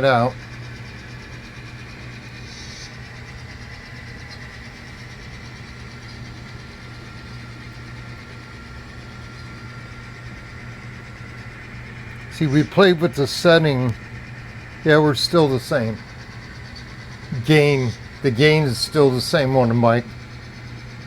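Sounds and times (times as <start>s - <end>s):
model locomotive humming: 0.0s - 21.0s.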